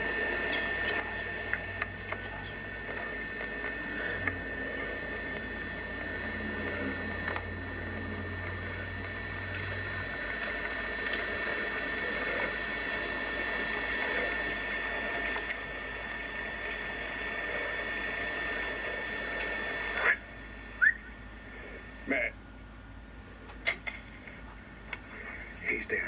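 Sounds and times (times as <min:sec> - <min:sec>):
steady hiss: 0:00.0 - 0:22.3
high-pitched whine: 0:00.0 - 0:22.4
low hum: 0:00.0 - 0:25.7.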